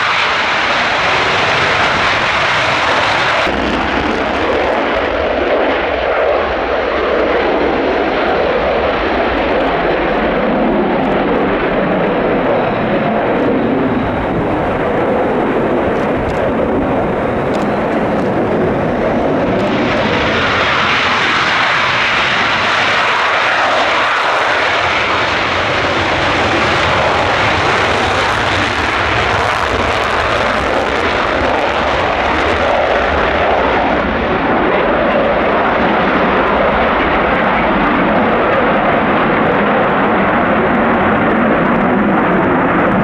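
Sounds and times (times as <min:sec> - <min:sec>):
loud jet engine noise: 0:00.0 - 0:43.0.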